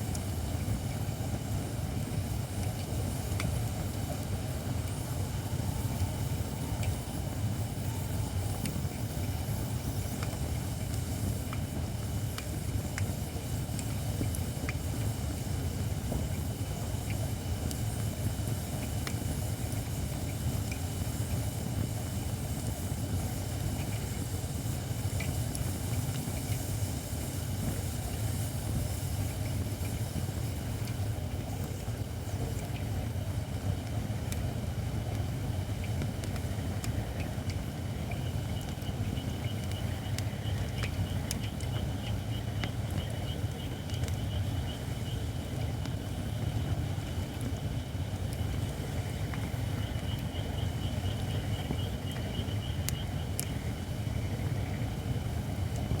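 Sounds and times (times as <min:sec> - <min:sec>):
campfire crackling and popping: 0:00.0 - 0:56.0
fire hissing: 0:00.0 - 0:56.0
fire low rumble: 0:00.0 - 0:56.0.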